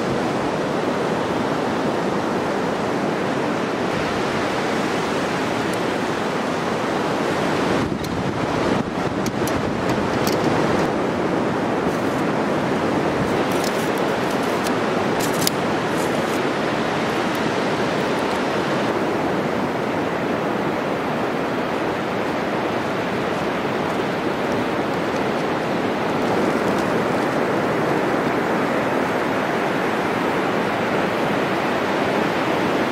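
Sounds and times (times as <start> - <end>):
sea surf washing onto beach: 0.0 - 32.9.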